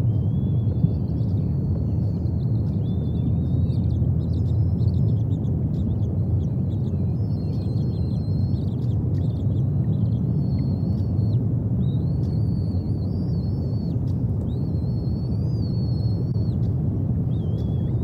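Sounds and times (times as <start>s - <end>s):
thin bird whistles: 0.0s - 16.7s, 17.3s - 18.0s
faint bird chirps: 0.0s - 18.0s
steady low rumble: 0.0s - 18.0s.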